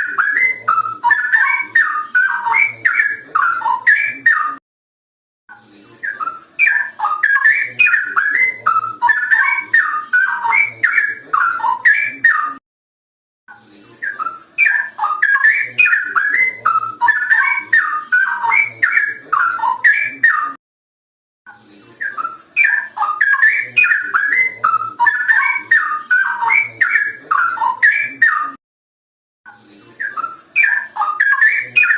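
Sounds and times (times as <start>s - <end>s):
bird singing whistled notes: 0.0s - 4.6s, 6.0s - 12.6s, 14.0s - 20.6s, 22.0s - 28.6s, 30.0s - 31.9s.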